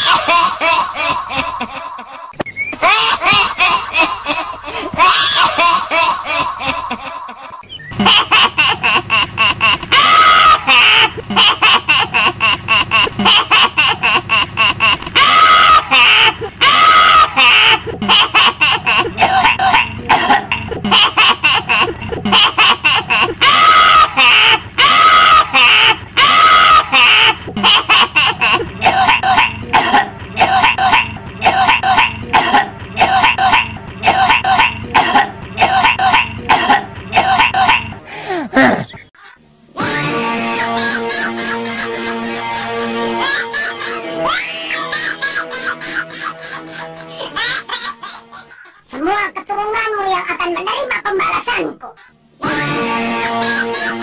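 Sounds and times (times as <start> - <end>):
woman cackling laugh: 0.0 - 37.9, 40.6 - 48.8.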